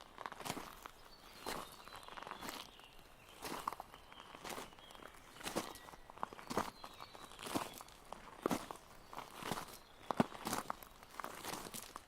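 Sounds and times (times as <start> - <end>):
footsteps on trail: 0.0 - 12.0.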